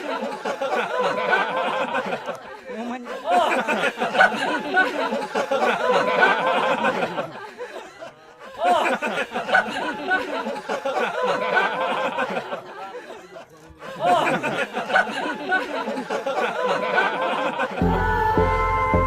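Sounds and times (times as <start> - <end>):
crowd laughing and chattering: 0.0 - 18.8.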